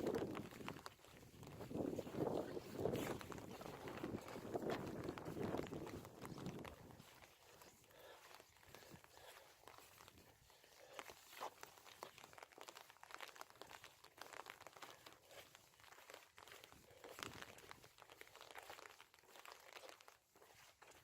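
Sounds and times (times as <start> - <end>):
footsteps crunching on a path: 0.0 - 21.0
light crackles: 0.0 - 21.0.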